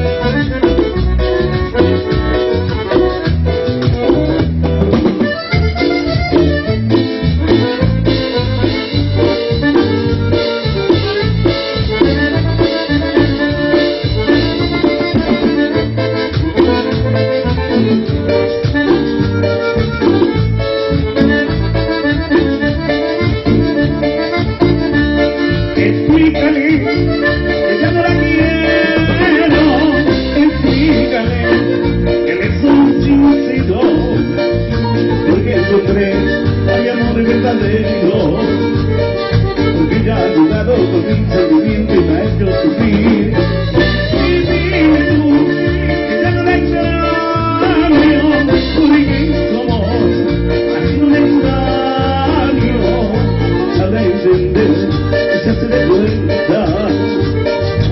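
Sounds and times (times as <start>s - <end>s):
latin dance band playing: 0.0s - 57.9s.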